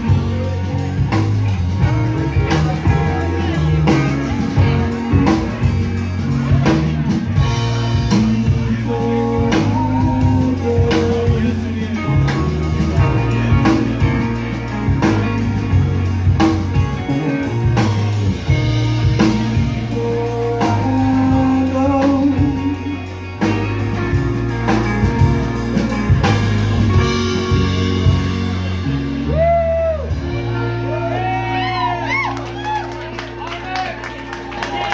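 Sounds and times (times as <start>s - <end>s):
lead guitar line: 0.0s - 34.9s
live rock band playing: 0.0s - 34.9s.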